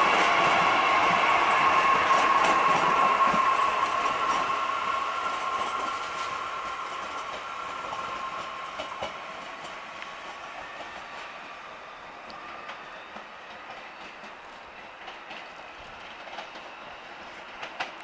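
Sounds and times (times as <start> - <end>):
train rolling with high whine: 0.0 - 18.0.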